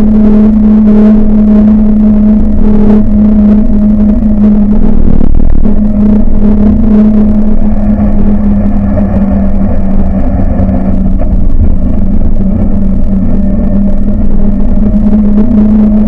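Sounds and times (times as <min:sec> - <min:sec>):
buggy engine running: 0:00.0 - 0:16.0.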